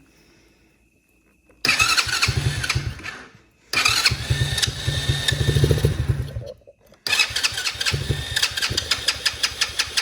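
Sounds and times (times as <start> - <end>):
quad engine cranking: 1.7 - 10.0.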